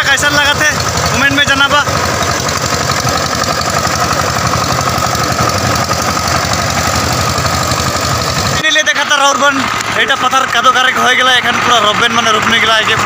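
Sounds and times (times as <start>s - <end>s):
diesel engine chugging: 0.0s - 13.0s.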